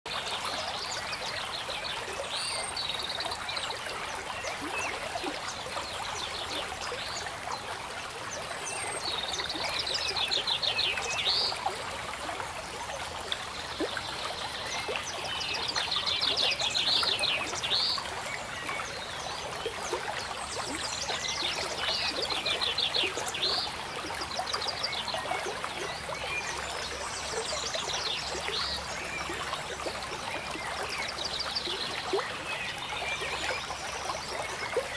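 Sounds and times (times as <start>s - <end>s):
water trickling: 0.1s - 34.9s.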